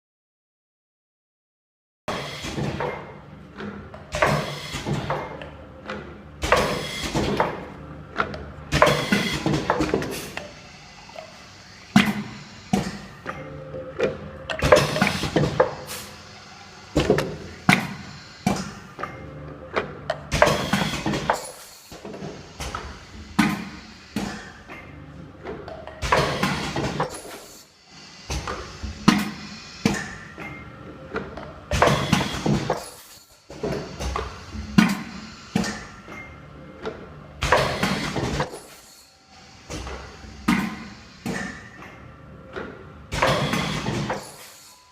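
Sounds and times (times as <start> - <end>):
machine noise: 4.1 - 44.9.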